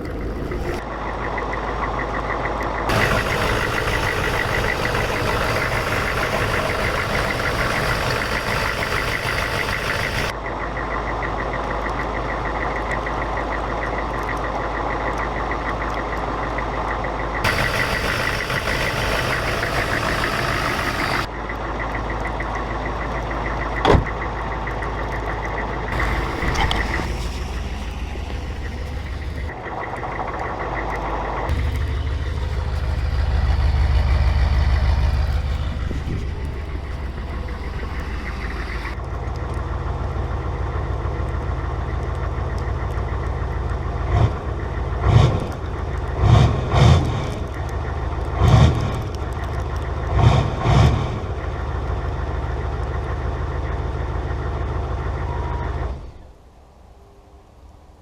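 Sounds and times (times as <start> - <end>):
diesel engine idling: 0.0 - 56.3.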